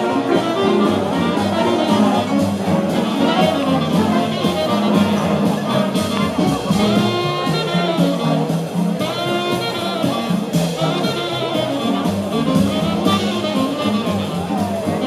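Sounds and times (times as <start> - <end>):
jazz big band playing: 0.0 - 15.0.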